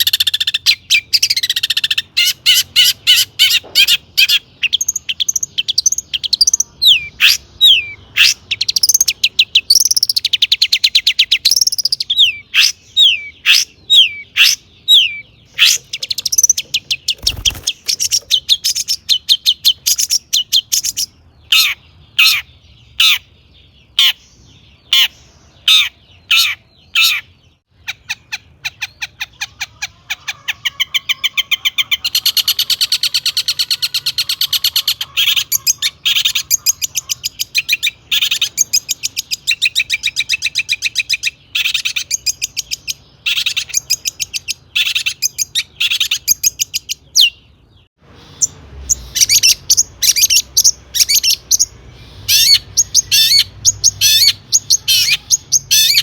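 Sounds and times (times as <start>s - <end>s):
shrike singing varied song: 0.0s - 56.0s.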